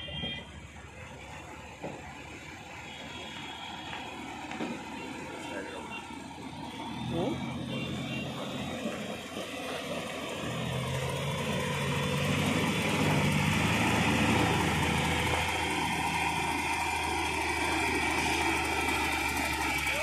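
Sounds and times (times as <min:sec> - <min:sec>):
road roller diesel engine: 0:00.0 - 0:20.0.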